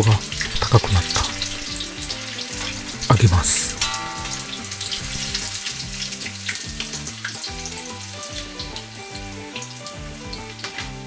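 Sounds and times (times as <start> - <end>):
background music with bass line: 0.0 - 11.0
oil sizzling and crackling: 0.0 - 11.0.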